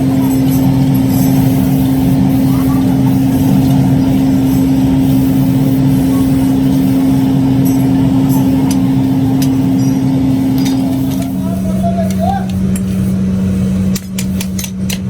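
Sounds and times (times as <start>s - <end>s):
machinery humming loudly: 0.0s - 15.0s.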